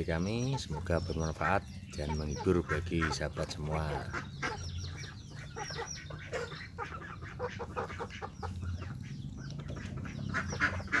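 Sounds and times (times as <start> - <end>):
birds chirping and clucking: 0.0 - 11.0.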